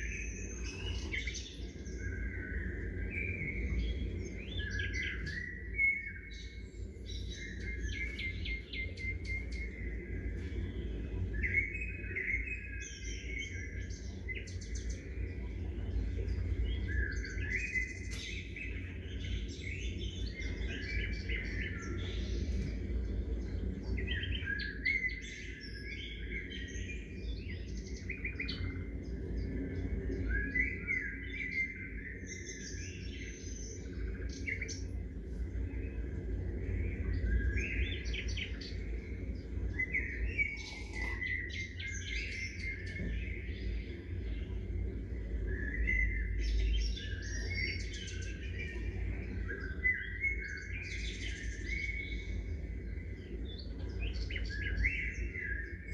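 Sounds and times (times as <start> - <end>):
low background rumble: 0.0 - 55.9
songbirds chirping: 0.0 - 55.9.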